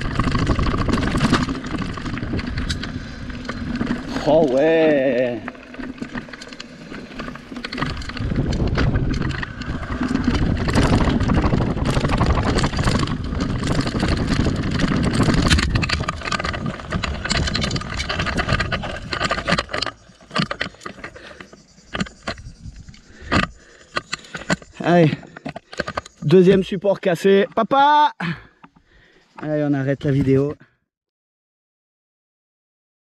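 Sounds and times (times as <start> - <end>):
scattered clicks: 0.0 - 27.9
bike rattling over rocky trail: 0.0 - 30.6.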